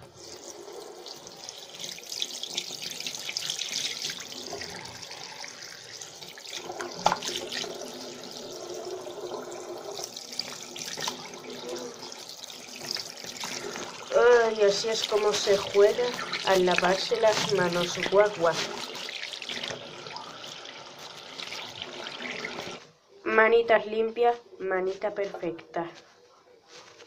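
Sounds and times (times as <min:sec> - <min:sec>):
hands washing under water: 0:00.0 - 0:22.8
tap water running into sink: 0:00.0 - 0:22.8.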